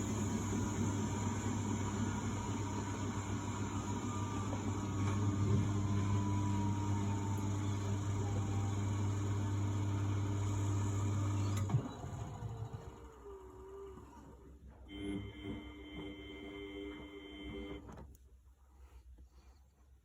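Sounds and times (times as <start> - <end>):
washing machine humming and whining: 0.0 - 18.2.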